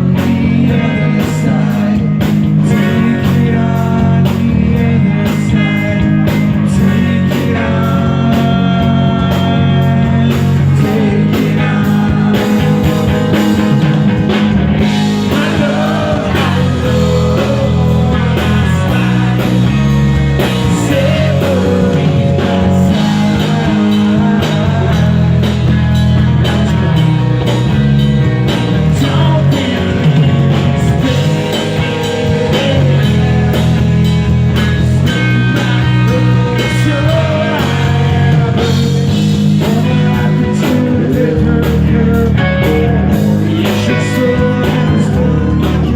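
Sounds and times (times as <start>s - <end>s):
person singing: 0.0s - 13.4s, 14.8s - 25.7s, 28.8s - 45.9s
rock band playing: 0.0s - 45.9s.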